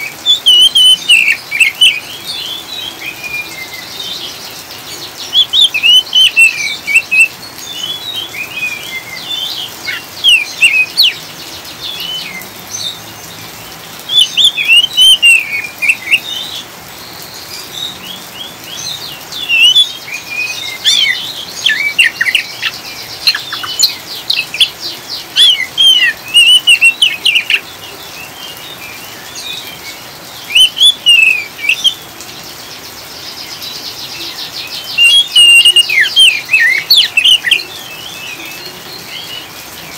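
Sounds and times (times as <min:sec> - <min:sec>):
bird singing rapid twitters: 0:00.0 - 0:39.9
rain hiss: 0:00.0 - 0:39.9.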